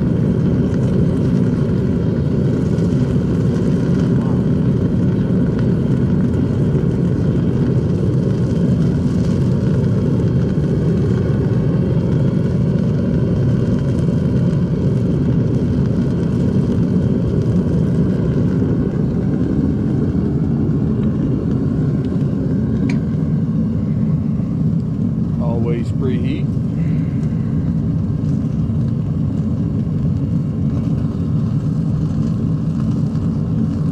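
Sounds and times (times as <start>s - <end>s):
gas torch burning: 0.0s - 33.9s.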